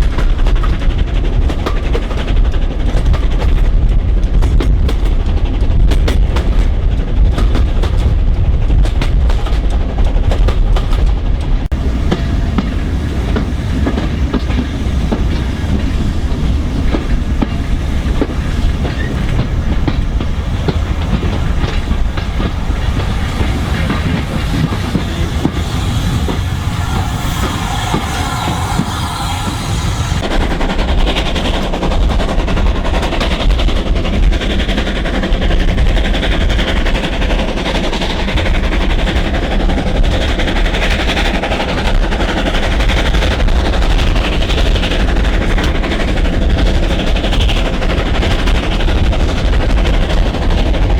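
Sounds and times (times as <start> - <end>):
steam train rumbling: 0.0 - 50.9
wheels clattering on track: 0.0 - 50.9.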